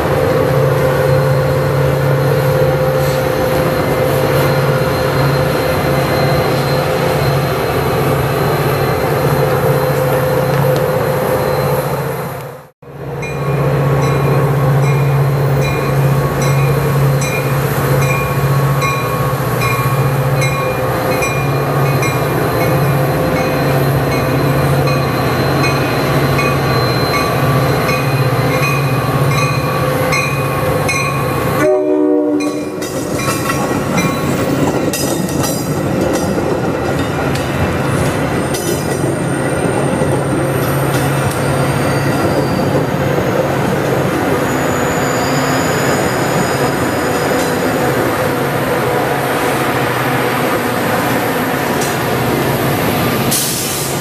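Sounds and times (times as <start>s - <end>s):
locomotive drone: 0.0s - 54.0s
train wheels rushing on rail: 0.0s - 54.0s.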